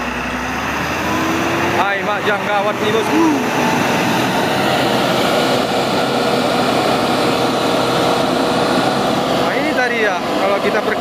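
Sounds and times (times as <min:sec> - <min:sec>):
truck diesel engine straining: 0:00.0 - 0:11.0.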